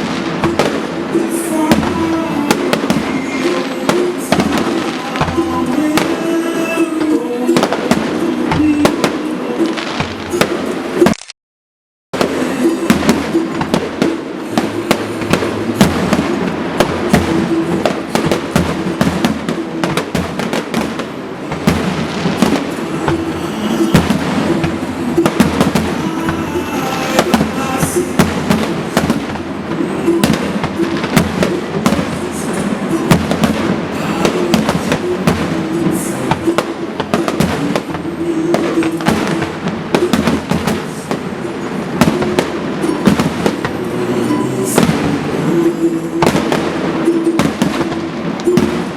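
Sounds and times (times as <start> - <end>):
music playing: 0.0 - 11.1, 12.2 - 48.9
fireworks bangs and crackling: 0.0 - 11.2, 12.2 - 48.9.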